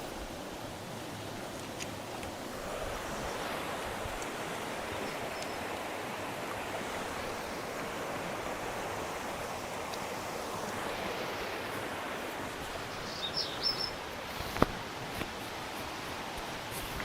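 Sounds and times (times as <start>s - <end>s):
rushing forest ambience: 0.0s - 17.0s.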